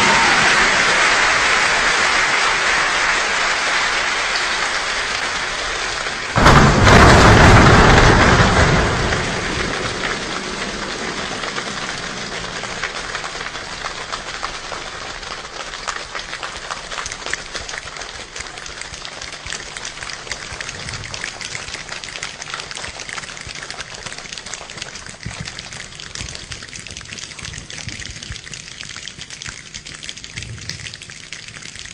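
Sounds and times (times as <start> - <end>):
people imitating rain with hands: 0.0 - 8.8, 9.5 - 31.9.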